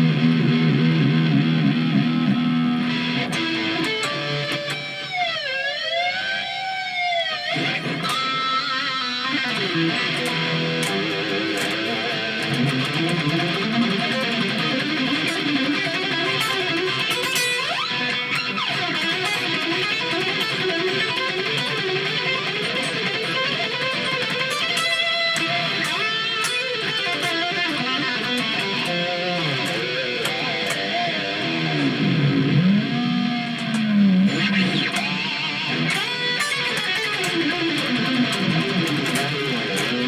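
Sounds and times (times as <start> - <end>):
electric guitar playing rock: 0.0 - 40.0.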